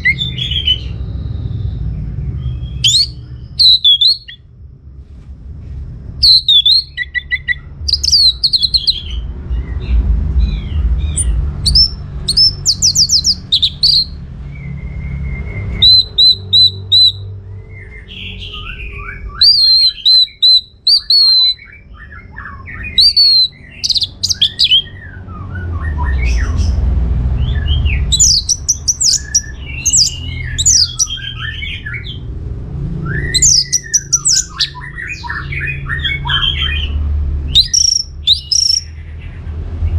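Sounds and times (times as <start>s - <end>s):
thrush singing: 0.0s - 1.0s, 2.2s - 4.4s, 6.2s - 14.8s, 15.4s - 39.0s
low background rumble: 0.0s - 39.9s.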